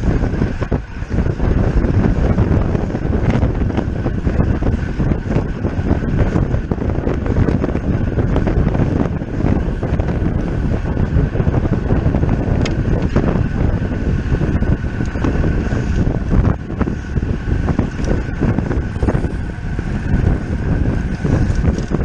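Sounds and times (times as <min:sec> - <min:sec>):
faint steady whine: 0:00.0 - 0:22.0
wind buffeting microphone: 0:00.0 - 0:22.0.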